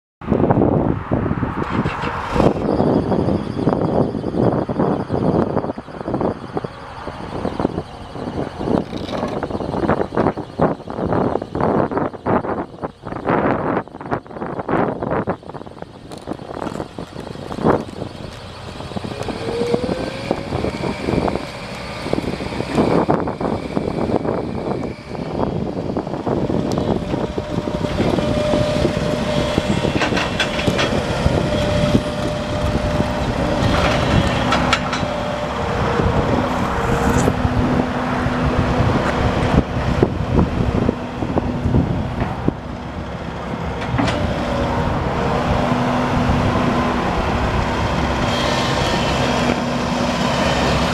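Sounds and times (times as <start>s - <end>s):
excavator diesel engine and hydraulics: 0.2s - 50.9s
steady whine: 0.2s - 50.9s.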